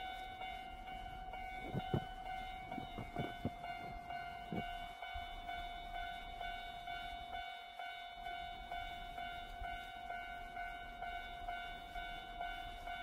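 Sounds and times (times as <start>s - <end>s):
electric train high tone: 0.0s - 13.0s.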